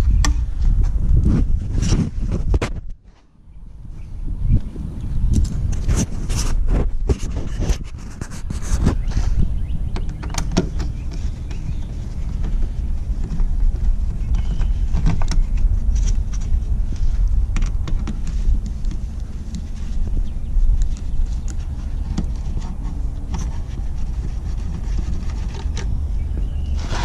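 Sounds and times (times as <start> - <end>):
low rumble: 0.0 - 7.6, 10.7 - 27.0.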